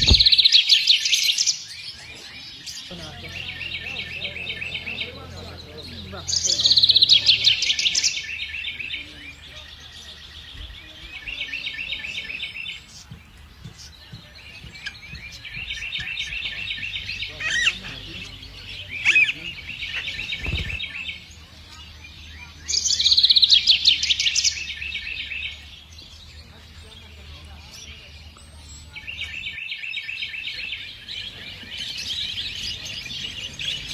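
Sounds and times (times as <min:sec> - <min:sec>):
songbird singing rapid trills: 0:00.0 - 0:33.9.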